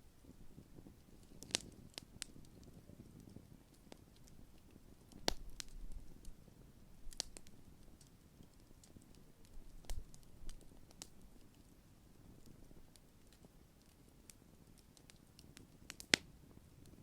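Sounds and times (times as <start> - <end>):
campfire crackling and popping: 0.1 - 17.0.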